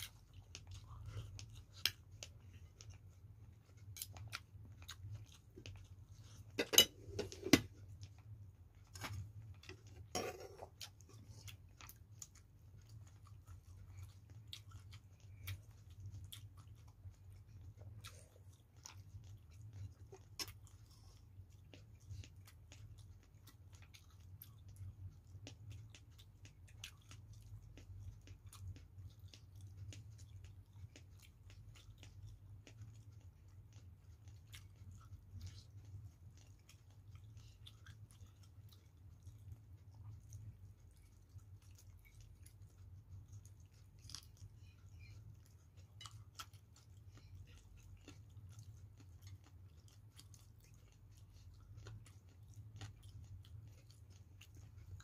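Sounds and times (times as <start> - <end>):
faint chewing with mouth clicks: 0.0 - 55.0
low steady hum: 0.0 - 55.0.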